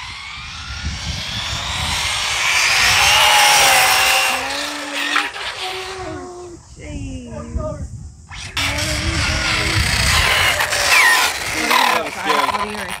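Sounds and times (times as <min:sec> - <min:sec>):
electric motor whine: 0:00.0 - 0:06.3, 0:08.3 - 0:13.0
tyre and road noise: 0:00.0 - 0:06.3, 0:08.4 - 0:13.0.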